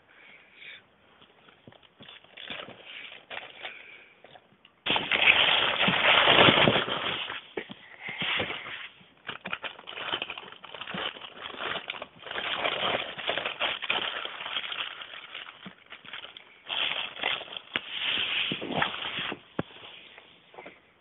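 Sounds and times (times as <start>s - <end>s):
plastic bag crinkling: 1.4s - 19.6s.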